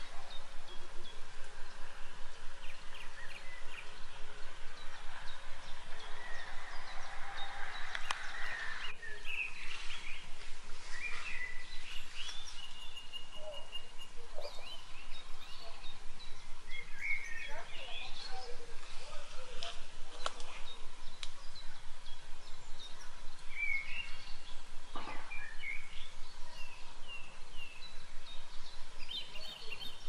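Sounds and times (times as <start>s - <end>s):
birds singing: 0.0s - 30.0s
steady background hiss: 0.0s - 30.0s.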